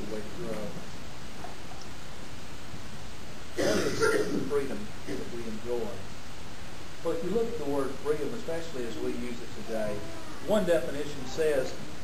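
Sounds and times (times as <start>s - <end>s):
room tone hiss: 0.0s - 12.0s.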